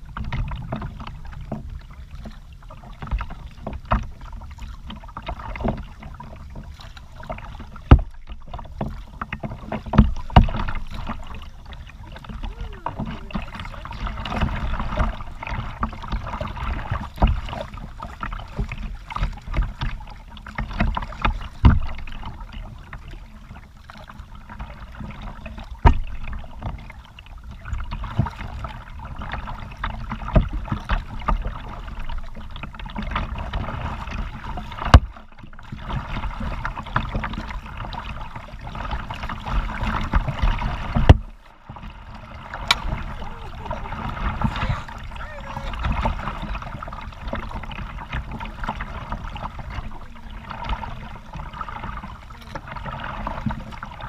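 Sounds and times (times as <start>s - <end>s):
paddle knocking on hull: 0.0s - 54.0s
water splashing off paddle: 0.0s - 54.0s.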